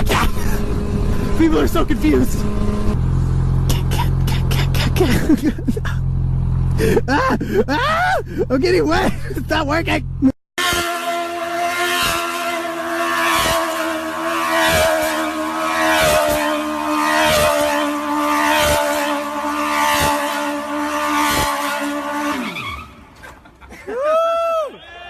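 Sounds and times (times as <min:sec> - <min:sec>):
vehicle engine at high revs: 0:00.0 - 0:23.4.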